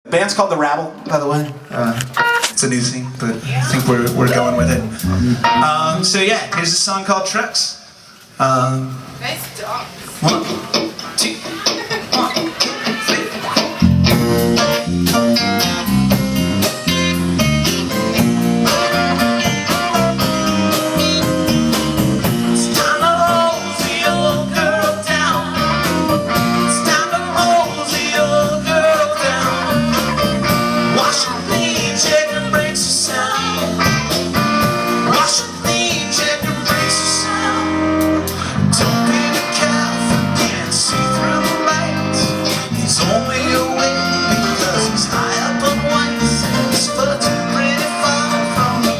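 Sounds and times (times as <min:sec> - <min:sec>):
live band playing blues rock: 0:01.0 - 0:06.2, 0:09.2 - 0:48.9.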